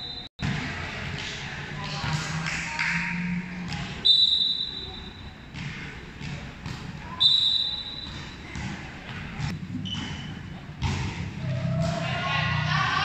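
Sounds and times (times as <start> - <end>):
volleyballs struck and bouncing: 0.0 - 12.1
players' voices: 0.4 - 13.0.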